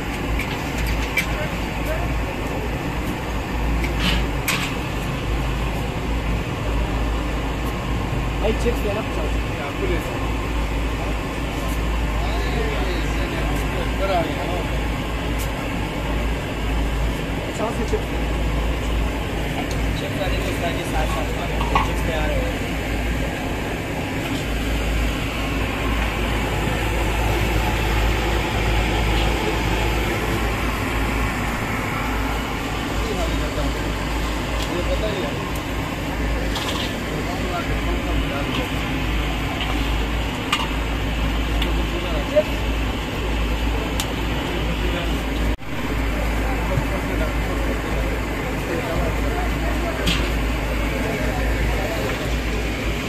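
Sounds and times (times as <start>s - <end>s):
low mechanical rumble: 0.0s - 53.0s.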